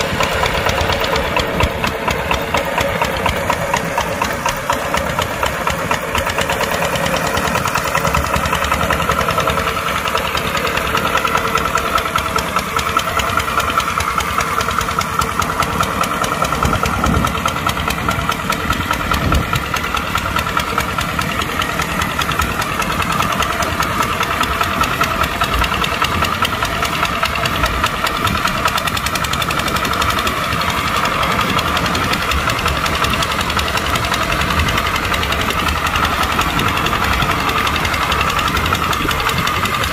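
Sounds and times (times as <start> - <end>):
steady whine: 0.0 - 39.9
tractor diesel engine running: 0.0 - 39.9.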